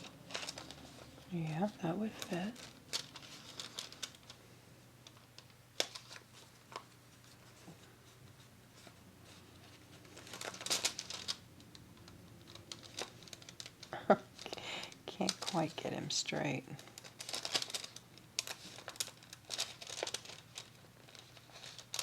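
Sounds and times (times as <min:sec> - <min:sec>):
paper rustling: 0:00.0 - 0:04.4, 0:05.0 - 0:11.4, 0:12.4 - 0:15.8, 0:16.8 - 0:22.0.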